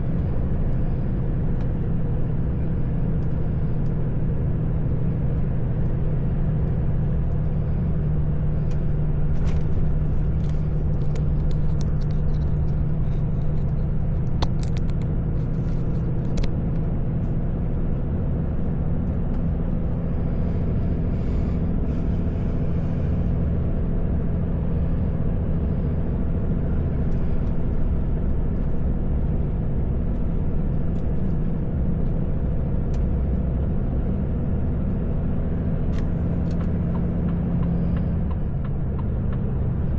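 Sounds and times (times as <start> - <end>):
truck engine and tyres droning: 0.0 - 39.9.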